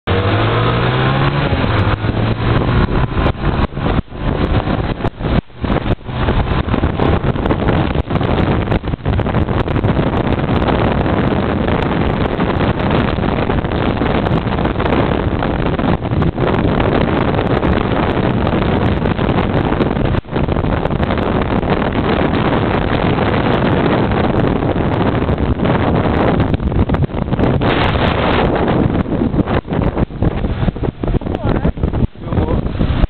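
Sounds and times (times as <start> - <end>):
motorcycle engine revving: 0.0 - 33.0
wind rushing on microphone: 0.0 - 33.0.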